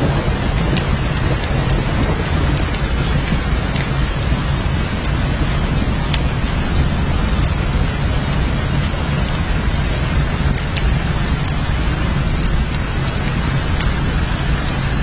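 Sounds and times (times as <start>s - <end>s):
heavy rain hissing: 0.0s - 15.0s
raindrops ticking: 0.0s - 15.0s.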